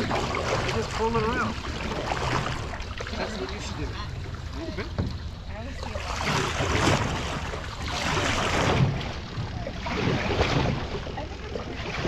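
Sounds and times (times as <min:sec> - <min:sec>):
paddle splashing through water: 0:00.0 - 0:12.0.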